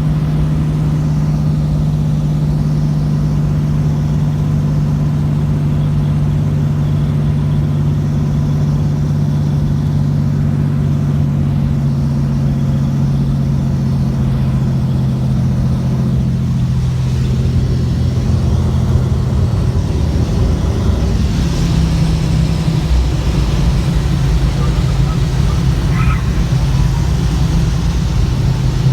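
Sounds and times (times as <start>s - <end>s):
light aircraft engine droning: 0.0s - 28.9s.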